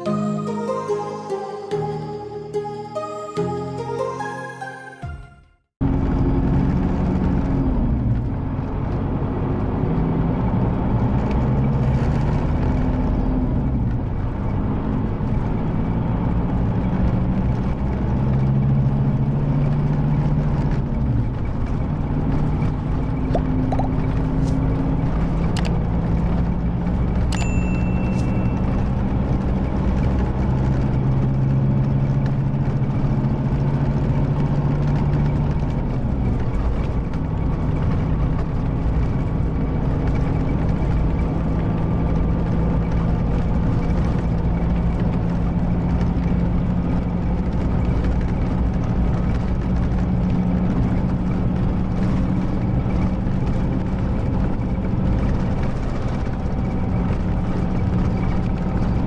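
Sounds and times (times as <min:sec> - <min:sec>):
diesel engine running: 0:05.8 - 0:59.0.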